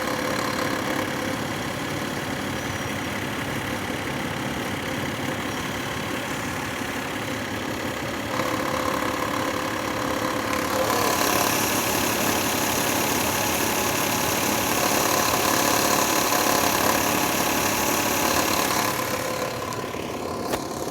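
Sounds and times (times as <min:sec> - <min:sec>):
car engine idling: 0:00.0 - 0:20.9
engine ticking noise: 0:00.0 - 0:20.9.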